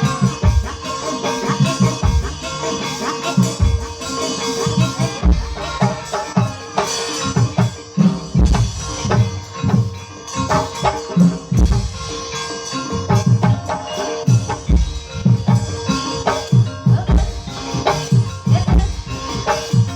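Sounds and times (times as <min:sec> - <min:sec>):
hand drum strokes: 0:00.0 - 0:19.9
ringing metal percussion: 0:00.0 - 0:19.9.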